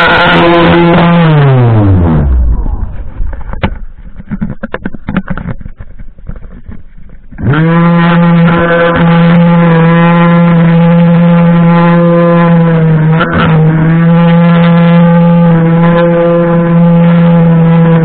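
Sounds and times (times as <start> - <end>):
string trimmer motor whine: 0.0 - 3.8, 7.3 - 18.0.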